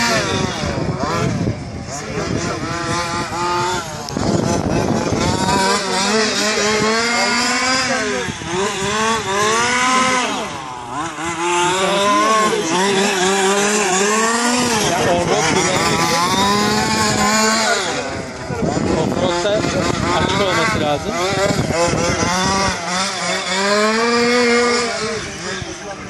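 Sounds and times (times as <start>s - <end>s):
rc car engine revving: 0.0s - 26.0s.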